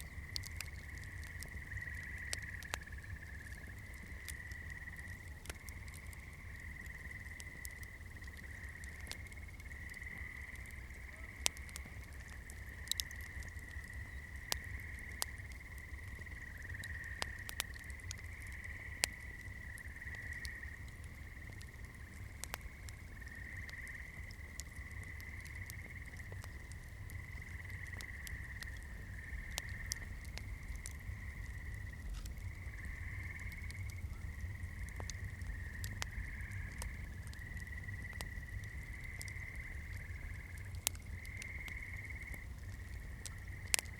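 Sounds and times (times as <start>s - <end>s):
campfire crackling and popping: 0.0s - 43.9s
low rumble of flame: 0.0s - 43.9s.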